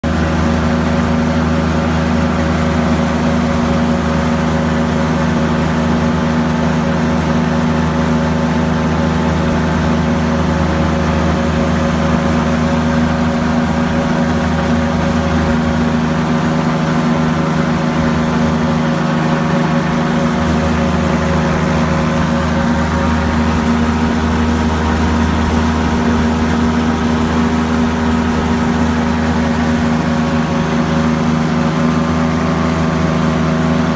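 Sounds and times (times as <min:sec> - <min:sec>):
aircraft engine and propeller droning: 0:00.0 - 0:33.9.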